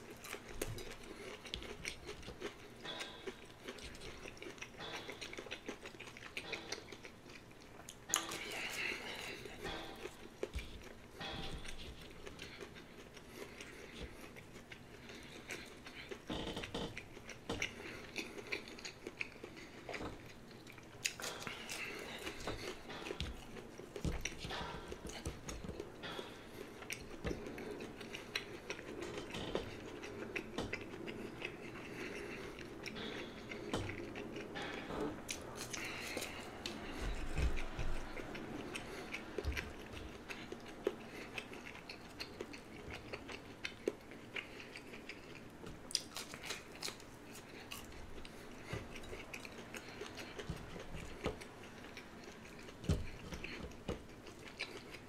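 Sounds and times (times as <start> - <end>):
person chewing crispy food: 0.0 - 55.0.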